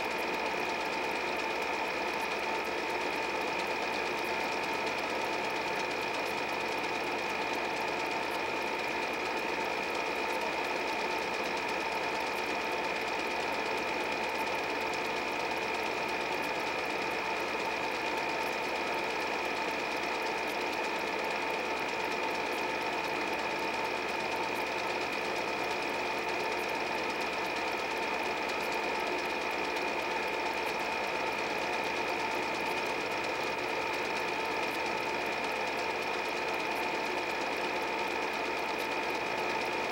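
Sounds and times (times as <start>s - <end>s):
movie projector whirring and clattering: 0.0s - 39.9s.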